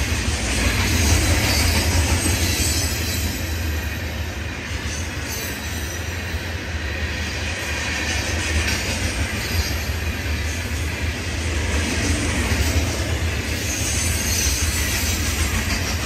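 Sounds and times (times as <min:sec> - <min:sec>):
freight cars rolling on rails: 0:00.0 - 0:16.0.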